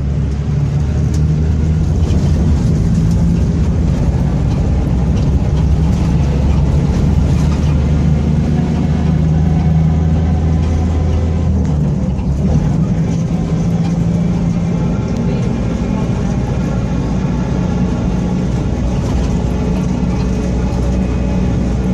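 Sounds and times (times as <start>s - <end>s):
bus diesel engine droning: 0.0s - 21.9s
drive shaft growl: 0.0s - 21.9s.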